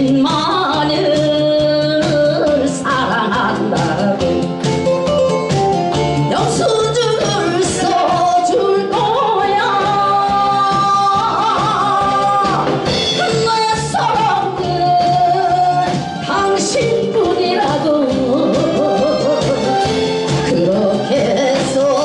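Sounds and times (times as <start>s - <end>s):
woman singing into a microphone: 0.0s - 4.5s, 6.2s - 22.0s
amplified musical accompaniment: 0.0s - 22.0s.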